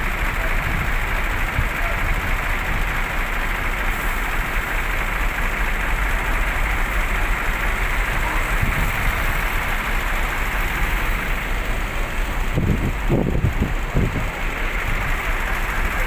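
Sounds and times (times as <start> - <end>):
buses idling: 0.0 - 16.0.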